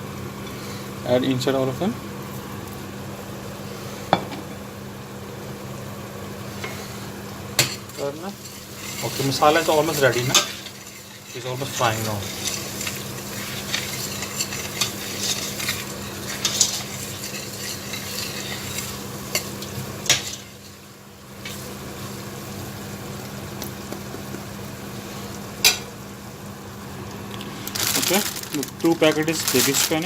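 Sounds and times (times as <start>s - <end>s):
masala sizzling in oil: 0.0s - 30.0s.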